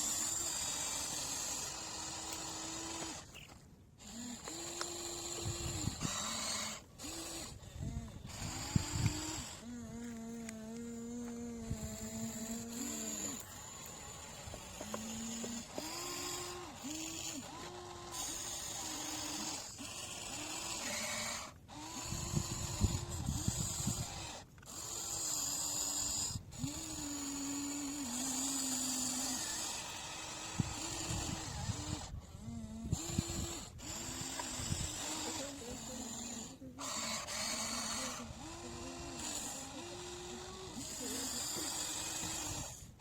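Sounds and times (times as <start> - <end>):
small electric motors whining: 0.0 - 43.0.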